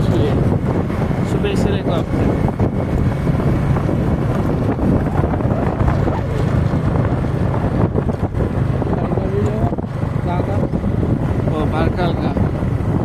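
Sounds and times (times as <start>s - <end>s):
motorcycle engine rumble: 0.0s - 13.0s
road noise: 0.0s - 13.0s
wind buffeting microphone: 0.0s - 13.0s.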